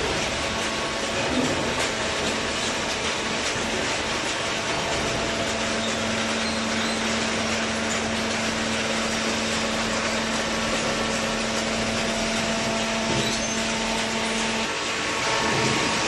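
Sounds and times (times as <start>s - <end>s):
baler machine running: 0.0s - 16.0s.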